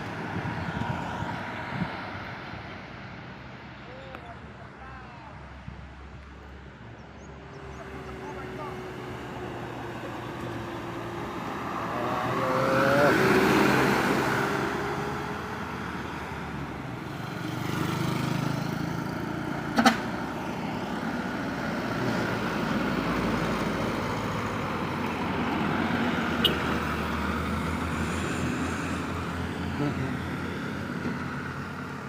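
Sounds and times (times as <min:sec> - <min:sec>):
large vehicles passing by: 0:00.0 - 0:32.0.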